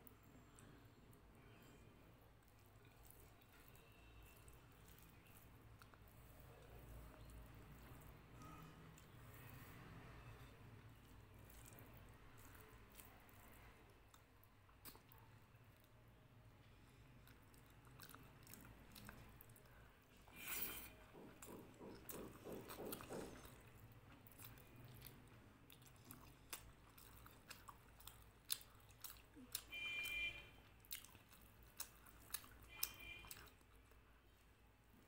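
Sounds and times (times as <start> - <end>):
chewing with wet lip smacks: 2.3 - 16.0, 16.6 - 34.4.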